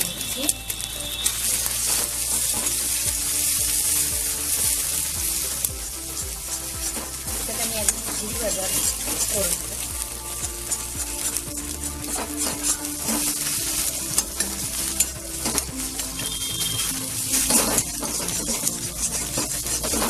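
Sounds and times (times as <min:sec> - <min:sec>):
egg sizzling in hot oil: 0:00.0 - 0:20.0.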